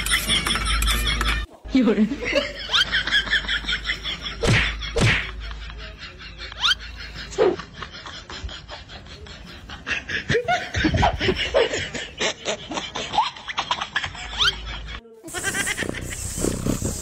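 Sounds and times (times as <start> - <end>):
people laughing: 0.0 - 16.4.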